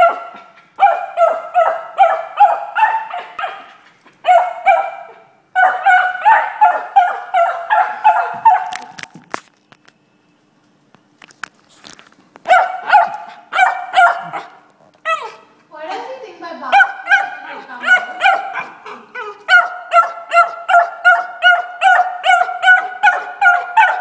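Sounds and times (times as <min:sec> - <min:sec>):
dog barking: 0:00.0 - 0:09.0, 0:12.5 - 0:15.5, 0:16.6 - 0:24.0.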